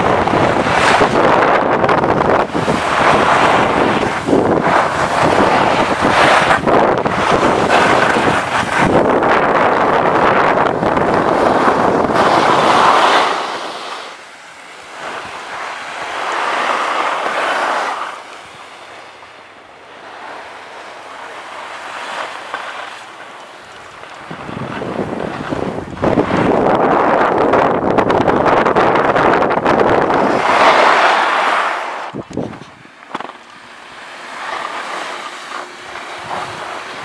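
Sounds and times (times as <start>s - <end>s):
wind on microphone: 0.0s - 19.4s, 20.2s - 37.0s.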